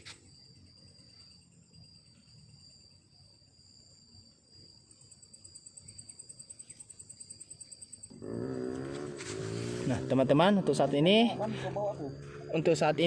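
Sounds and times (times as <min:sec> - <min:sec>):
fast pulsing insect chirp: 0:00.0 - 0:13.0
insects high steady whine: 0:00.0 - 0:13.0.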